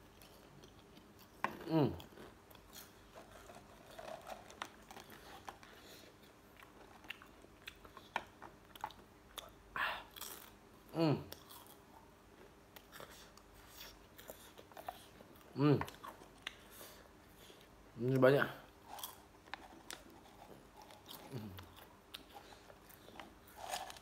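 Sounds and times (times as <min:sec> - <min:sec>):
person chewing crunchy chips: 0:00.0 - 0:10.6, 0:11.2 - 0:17.6, 0:18.7 - 0:24.0.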